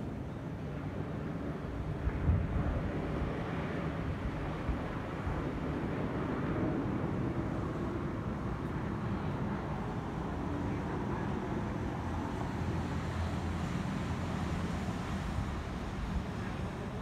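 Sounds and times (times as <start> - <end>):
jet airliner flying over: 0.0 - 17.0.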